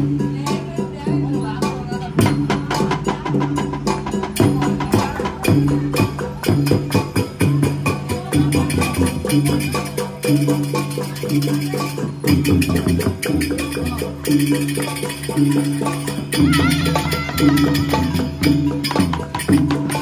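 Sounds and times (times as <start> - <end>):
gamelan playing: 0.0 - 20.0
ringing gong and metallophone: 0.0 - 20.0
small cymbals clashing: 1.5 - 20.0.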